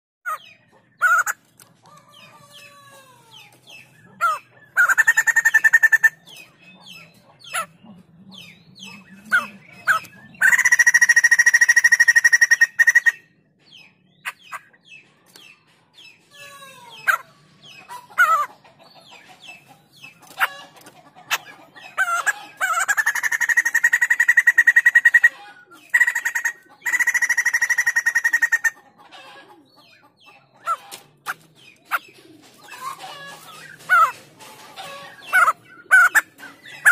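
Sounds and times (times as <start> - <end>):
rapid bird chattering: 0.3 - 15.6, 16.2 - 36.9.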